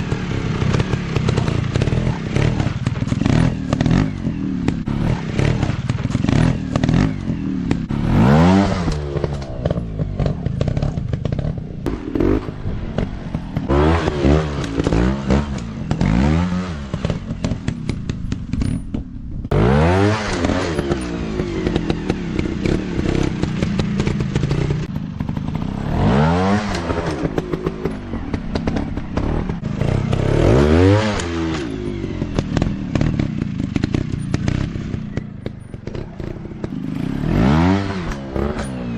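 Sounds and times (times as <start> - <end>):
engine clatter and crackle: 0.0 - 19.6, 20.2 - 38.9
dirt bike engine revving: 0.0 - 38.9.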